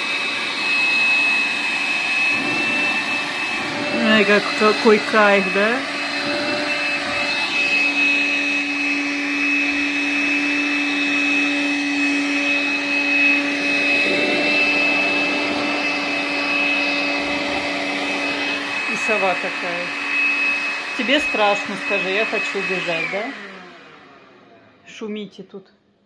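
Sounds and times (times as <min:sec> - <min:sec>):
handheld vacuum motor whine: 0:00.0 - 0:24.8.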